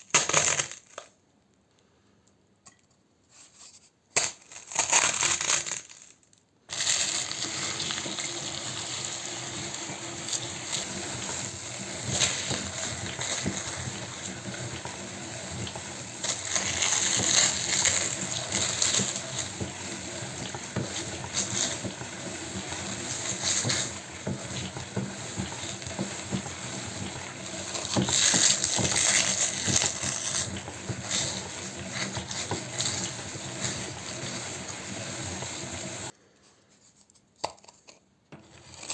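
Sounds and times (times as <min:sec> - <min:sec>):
meat grinder crunching: 0:04.2 - 0:06.0, 0:06.7 - 0:36.1, 0:38.4 - 0:38.9.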